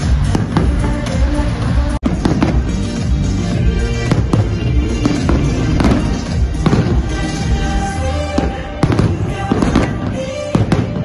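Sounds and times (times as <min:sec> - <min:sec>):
fireworks bursting with bangs: 0:00.0 - 0:11.0
music playing: 0:00.0 - 0:11.0.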